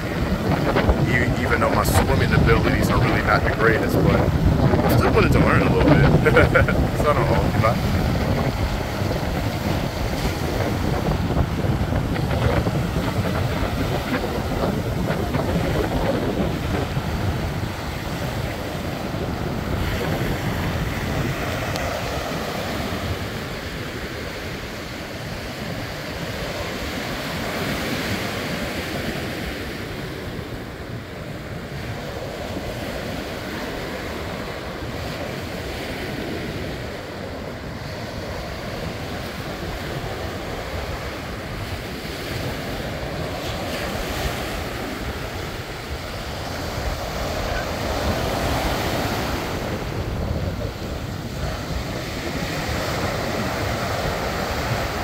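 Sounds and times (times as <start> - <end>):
waves washing up a beach: 0.0 - 55.0
wind rumbling on microphone: 0.0 - 55.0.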